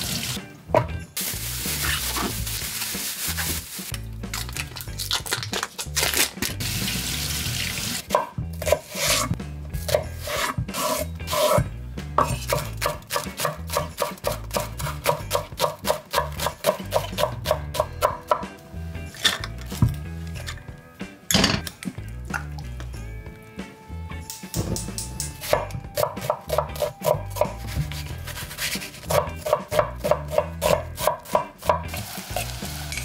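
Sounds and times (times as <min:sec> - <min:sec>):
background music: 0:00.0 - 0:33.0.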